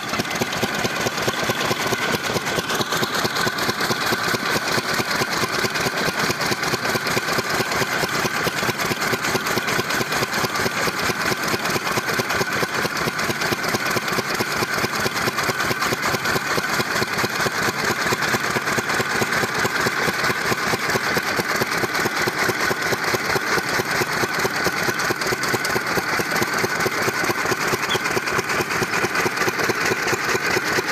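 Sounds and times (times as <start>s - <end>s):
diesel engine running steadily: 0.0s - 30.9s.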